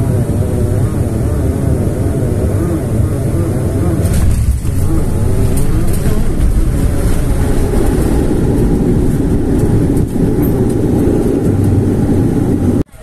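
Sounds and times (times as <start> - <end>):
airliner engines and wheels rumbling: 0.0 - 13.0.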